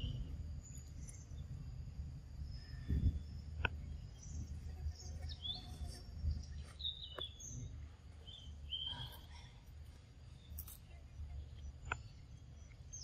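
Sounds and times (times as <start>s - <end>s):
birds chirping: 0.0s - 13.0s
low outdoor rumble: 0.0s - 13.0s.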